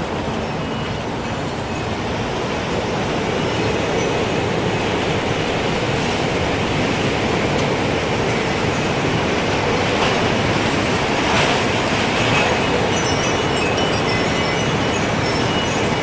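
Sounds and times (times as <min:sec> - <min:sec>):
wind chimes tinkling: 0:00.0 - 0:16.0.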